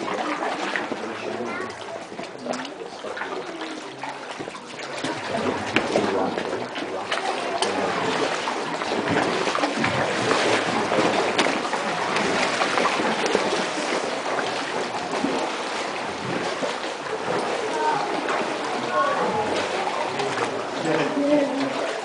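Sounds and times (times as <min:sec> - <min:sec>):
sharp splashes and knocks: 0:00.0 - 0:22.0
water sloshing around kayaks: 0:00.0 - 0:22.0.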